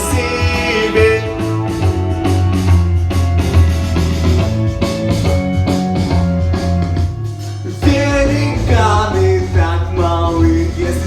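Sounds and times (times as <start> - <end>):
bass guitar: 0.0 - 11.0
drum kit steady beat: 0.0 - 11.0
guitar: 0.0 - 11.0.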